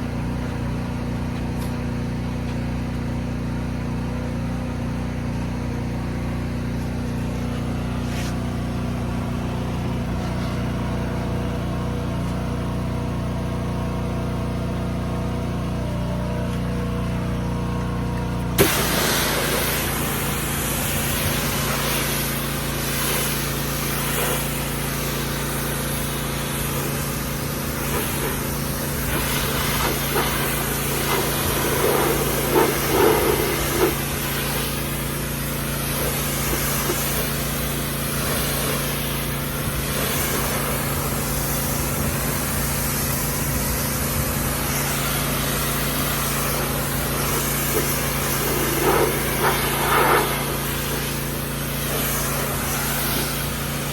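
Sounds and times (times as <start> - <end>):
pressure washer running: 0.0 - 53.9.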